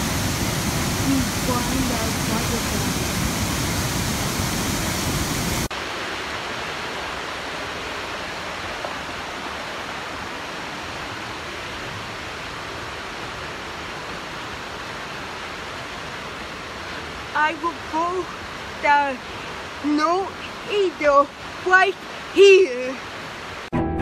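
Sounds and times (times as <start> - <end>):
creek water flowing: 0.0 - 23.7
waterfall rushing: 0.0 - 23.7.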